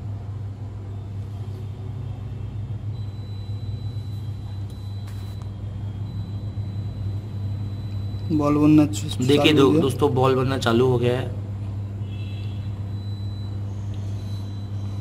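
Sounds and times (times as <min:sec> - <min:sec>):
hot air station humming: 0:00.0 - 0:15.0.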